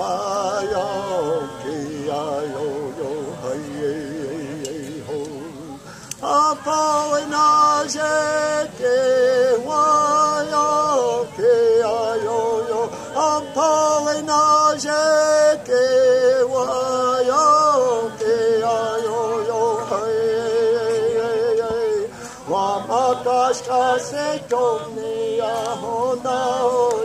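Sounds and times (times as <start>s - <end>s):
man singing unaccompanied: 0.0s - 27.0s.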